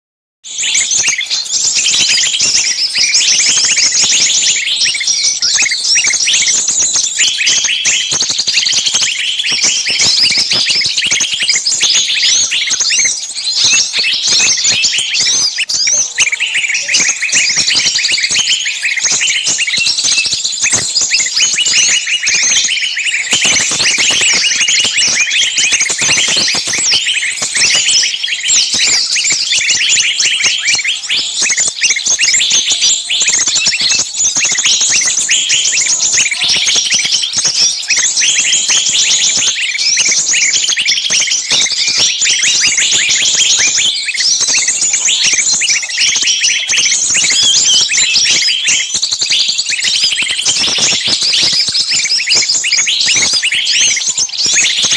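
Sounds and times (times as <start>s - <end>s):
birds chirping in chorus: 0.5s - 54.9s.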